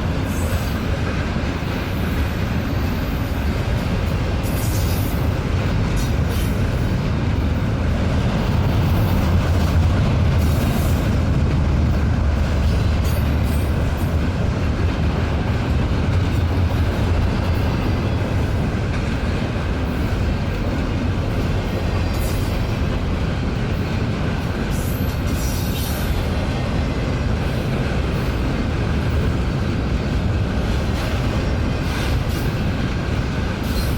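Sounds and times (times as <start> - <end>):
freight train wheels rumbling: 0.0 - 33.9.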